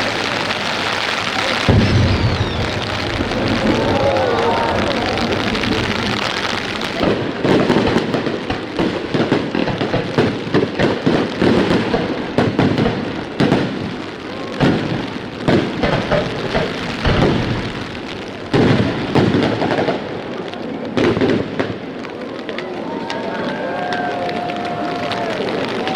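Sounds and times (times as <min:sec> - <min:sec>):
heavy rain hiss: 0:00.0 - 0:20.5, 0:22.1 - 0:25.9
fireworks booming and crackling: 0:00.0 - 0:25.9.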